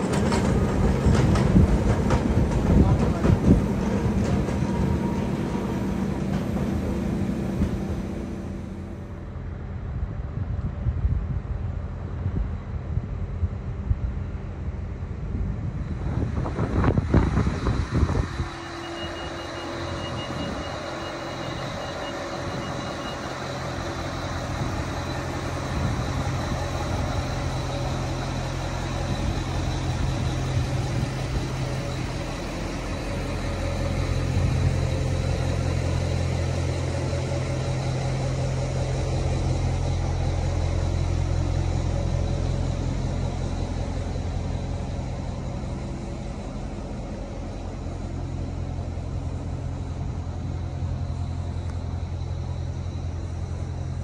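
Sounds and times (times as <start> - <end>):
train diesel engines running: 0.0 - 54.0.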